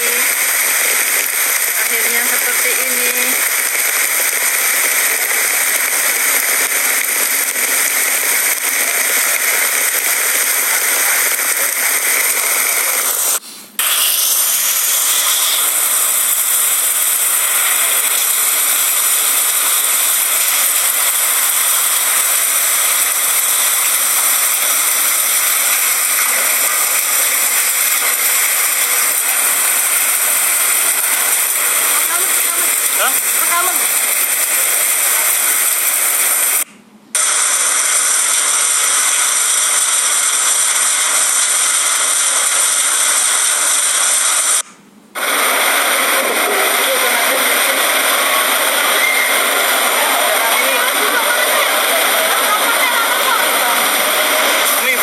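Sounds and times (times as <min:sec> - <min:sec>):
heavy rain: 0:00.0 - 0:36.6, 0:45.2 - 0:55.0.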